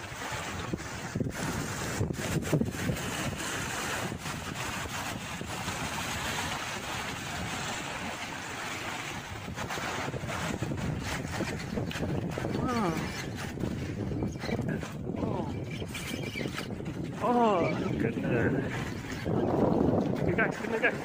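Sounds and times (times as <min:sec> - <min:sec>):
sea waves splashing against rocks: 0:00.0 - 0:15.5, 0:16.4 - 0:21.0
wind buffeting microphone: 0:00.0 - 0:21.0.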